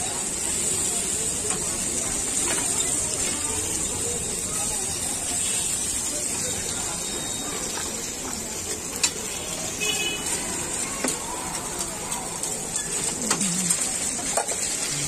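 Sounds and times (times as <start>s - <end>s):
meat sizzling on griddle: 0.0s - 15.0s.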